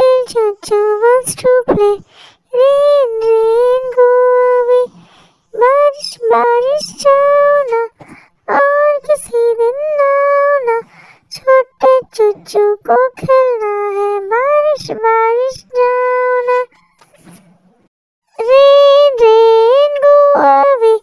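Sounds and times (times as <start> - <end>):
high voice singing: 0.0 - 16.7, 18.3 - 21.0.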